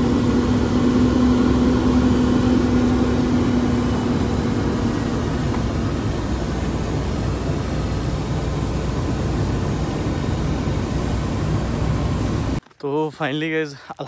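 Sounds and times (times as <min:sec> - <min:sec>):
truck engine rumbling: 0:00.0 - 0:12.6.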